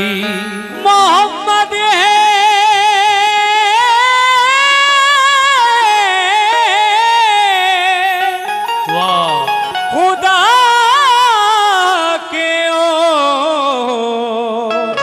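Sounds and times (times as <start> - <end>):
harmonium chord: 0.0 - 15.0
man singing long note with vibrato: 0.0 - 15.0.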